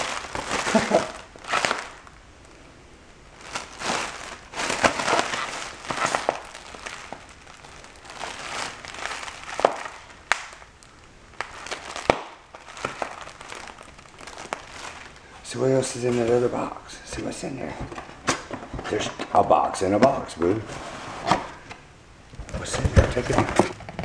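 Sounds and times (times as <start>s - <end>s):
plastic packaging crinkling: 0.0s - 2.7s, 3.3s - 20.3s, 22.4s - 24.0s.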